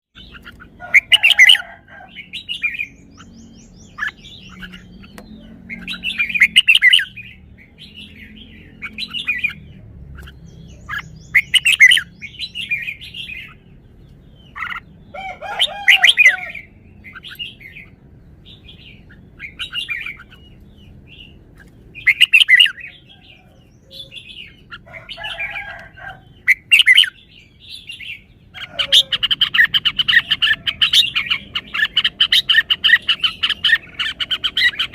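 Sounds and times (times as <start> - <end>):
bird singing warbling phrases: 0.1 - 34.9.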